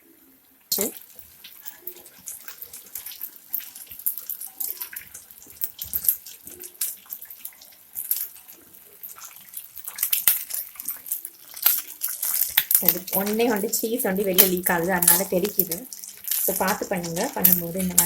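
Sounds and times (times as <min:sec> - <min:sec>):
batter deep-frying in hot oil: 0:00.0 - 0:18.0
oil crackling and popping: 0:00.6 - 0:18.0.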